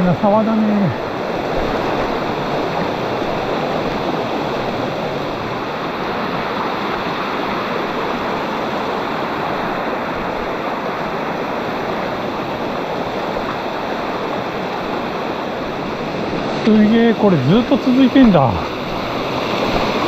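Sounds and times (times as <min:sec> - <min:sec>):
stream flowing over rock: 0:00.1 - 0:20.0.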